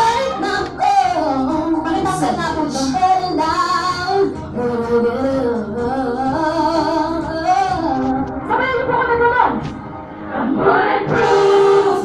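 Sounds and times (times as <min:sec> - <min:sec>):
female vocal group singing: 0:00.0 - 0:09.6, 0:10.2 - 0:12.0.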